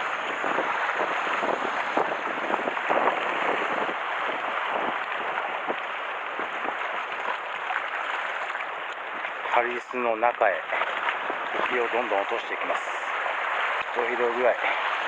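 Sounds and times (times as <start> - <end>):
waves splashing on rocks: 0.0 - 15.0.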